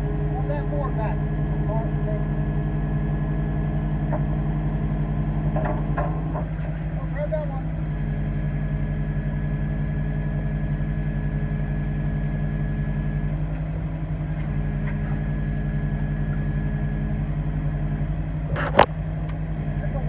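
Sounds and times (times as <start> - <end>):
thin high whine: 0.0 - 18.9
engine running steadily: 0.0 - 20.0.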